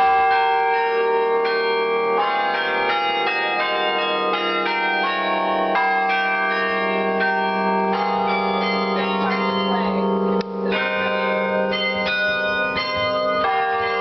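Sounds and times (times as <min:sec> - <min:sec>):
carillon bells playing tune: 0:00.0 - 0:14.0
low bell tone ringing: 0:00.0 - 0:14.0.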